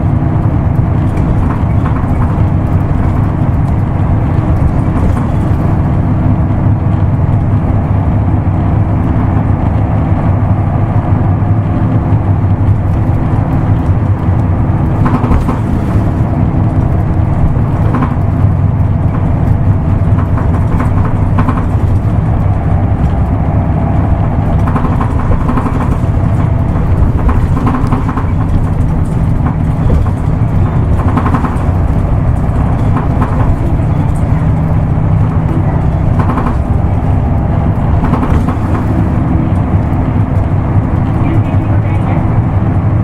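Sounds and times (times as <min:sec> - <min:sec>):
diesel bus engine droning: 0:00.0 - 0:43.0.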